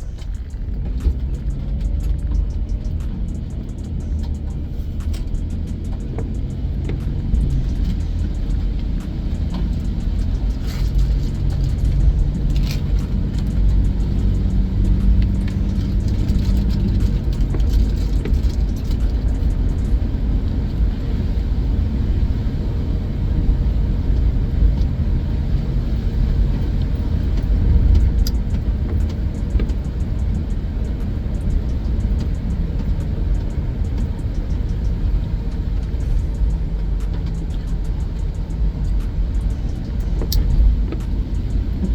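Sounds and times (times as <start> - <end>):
car road and engine rumble: 0.0 - 41.9
faint music playing: 0.0 - 41.9.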